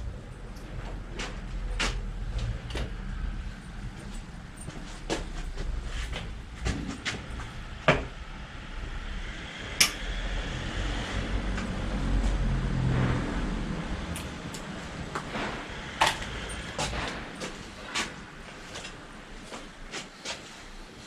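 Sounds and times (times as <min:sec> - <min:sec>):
low rumble: 0:00.0 - 0:18.4.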